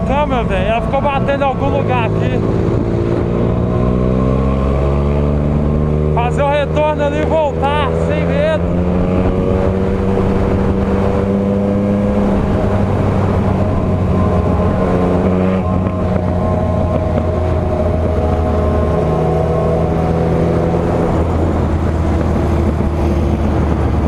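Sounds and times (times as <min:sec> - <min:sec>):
motorcycle engine at high revs: 0:00.0 - 0:24.0
wind and road noise: 0:00.0 - 0:24.0.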